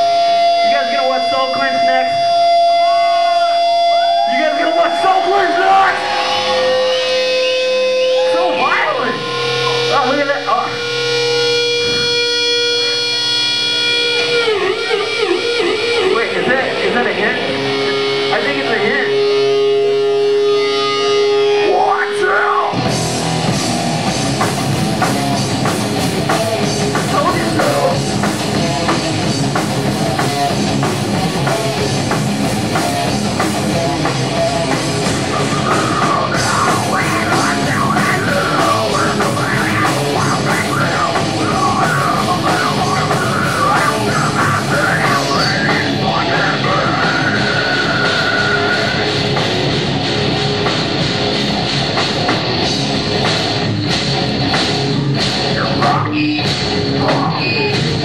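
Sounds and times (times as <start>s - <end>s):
distorted electric guitar note: 0.0s - 58.0s
heavy rock band playing: 0.0s - 58.0s.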